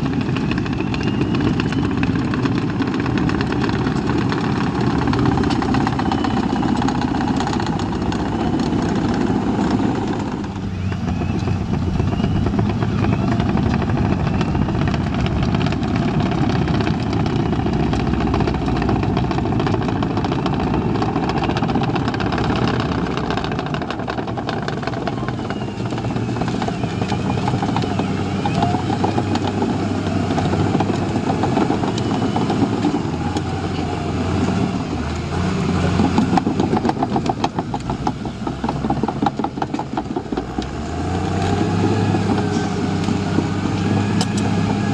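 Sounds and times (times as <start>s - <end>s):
diesel engine under load: 0.0s - 44.9s.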